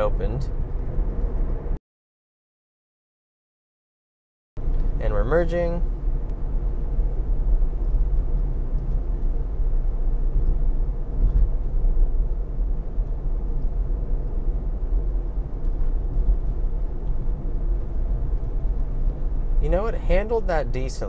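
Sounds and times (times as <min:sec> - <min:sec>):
road and tyre rumble in car: 0:00.0 - 0:01.8, 0:04.6 - 0:21.0.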